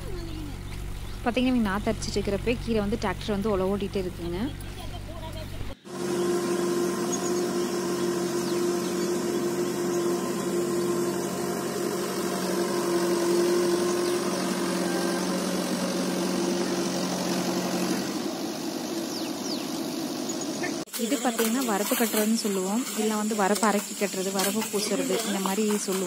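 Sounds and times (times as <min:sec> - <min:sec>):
tractor engine humming: 0:00.0 - 0:26.0.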